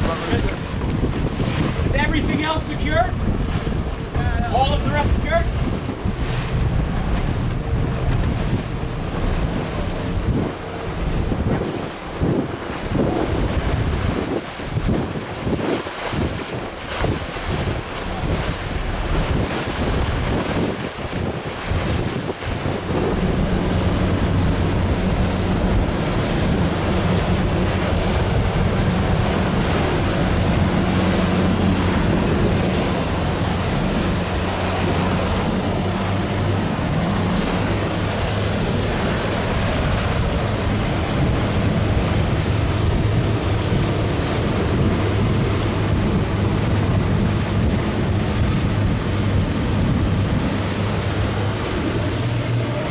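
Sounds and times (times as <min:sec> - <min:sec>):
boat engine drone: 0:00.0 - 0:52.9
water rushing past hull: 0:00.0 - 0:52.9
wind buffeting microphone: 0:00.0 - 0:52.9.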